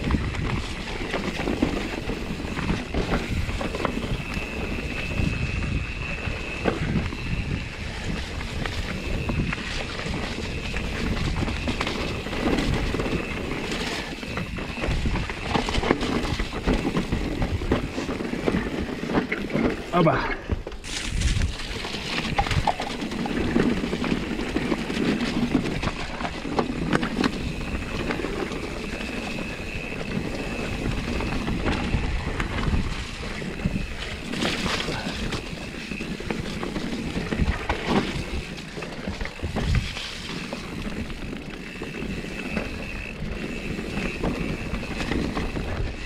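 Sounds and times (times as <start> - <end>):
wind on microphone: 0.0 - 46.0.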